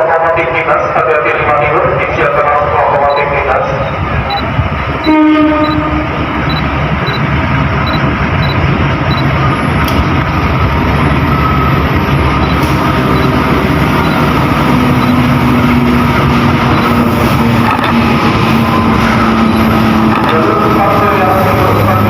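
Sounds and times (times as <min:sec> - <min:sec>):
diesel locomotive engine droning: 0:00.0 - 0:22.0.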